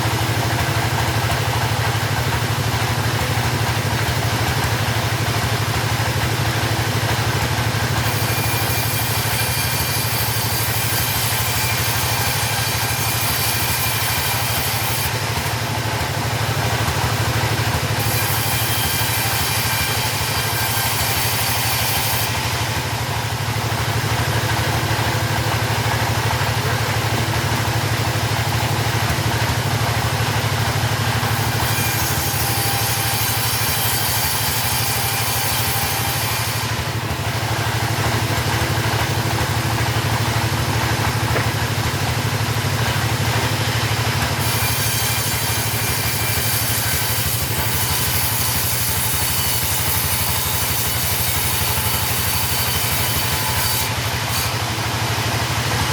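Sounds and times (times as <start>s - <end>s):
chainsaw engine running: 0.0s - 55.9s.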